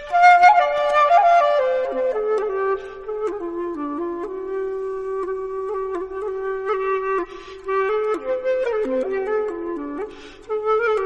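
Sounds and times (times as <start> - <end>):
flute playing slow melody: 0.0 - 11.0.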